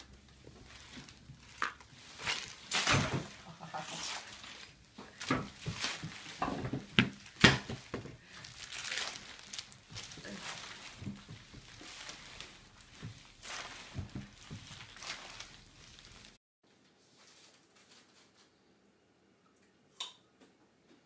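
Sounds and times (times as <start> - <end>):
wrappers crinkling and rustling: 0.0 - 18.6.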